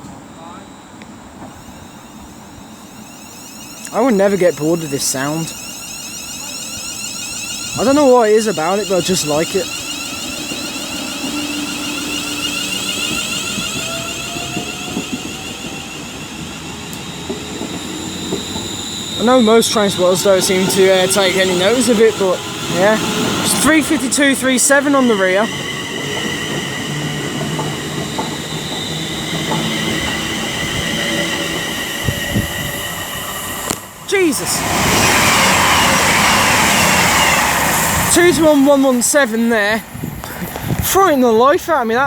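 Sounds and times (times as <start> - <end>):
electric train whine: 0.0 - 42.0
high ringing from rails and wheels: 0.0 - 42.0.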